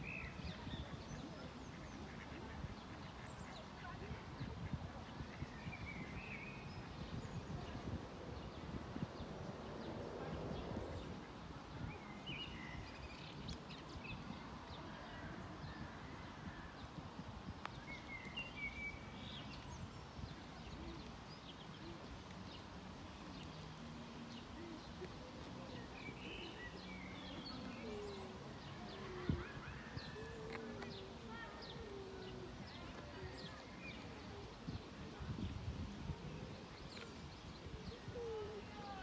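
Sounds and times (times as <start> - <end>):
low background noise: 0.0 - 39.0.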